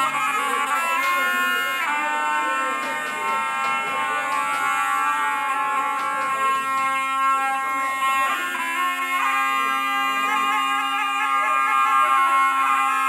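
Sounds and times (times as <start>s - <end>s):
shawm playing piercing notes: 0.0s - 13.0s.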